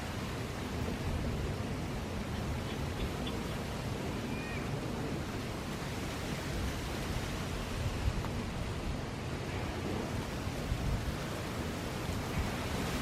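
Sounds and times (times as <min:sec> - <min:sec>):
wind blowing: 0:00.0 - 0:13.0
wind rumble on microphone: 0:00.0 - 0:13.0.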